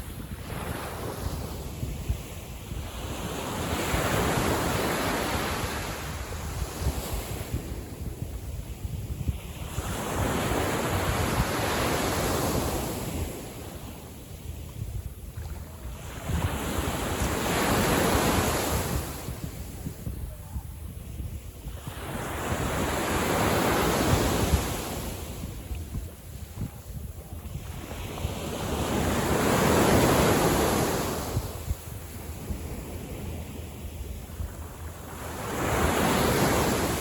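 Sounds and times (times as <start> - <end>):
sea waves breaking on beach: 0.0 - 19.9, 20.9 - 37.0
wind buffeting microphone: 0.0 - 37.0.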